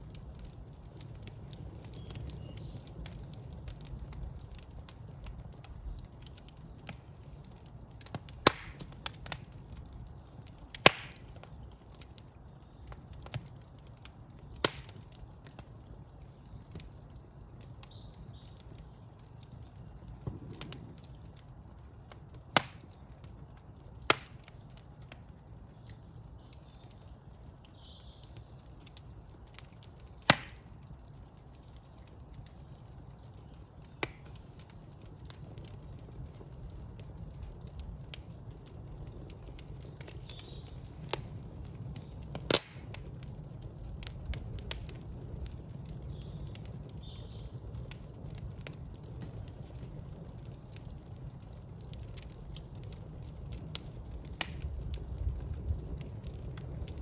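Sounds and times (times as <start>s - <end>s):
fire crackling and popping: 0.0s - 57.0s
fire flame rumble: 0.0s - 57.0s.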